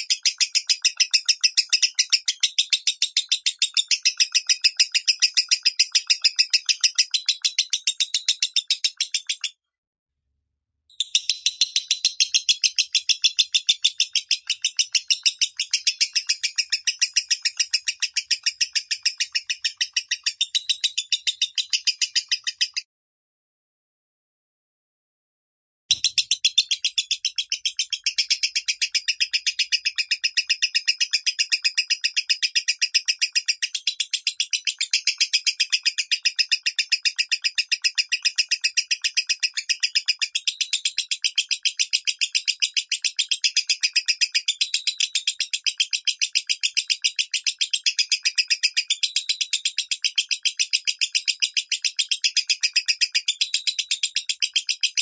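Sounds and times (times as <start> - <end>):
lovebird chirping: 0.0 - 9.6, 10.9 - 22.9, 25.9 - 55.0.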